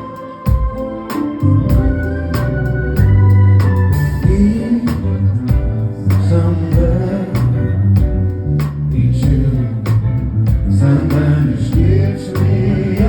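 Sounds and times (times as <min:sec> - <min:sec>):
bass: 0:00.0 - 0:13.0
guitar: 0:00.0 - 0:13.0
held keyboard notes: 0:00.0 - 0:13.0
drums on a steady beat: 0:00.5 - 0:13.0
vocal sounds: 0:01.4 - 0:13.0.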